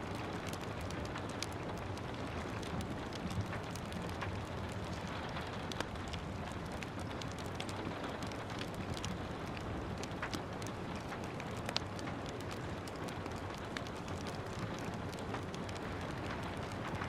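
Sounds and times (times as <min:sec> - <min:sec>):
steady rain: 0:00.0 - 0:17.0
fireplace crackling: 0:00.1 - 0:17.0.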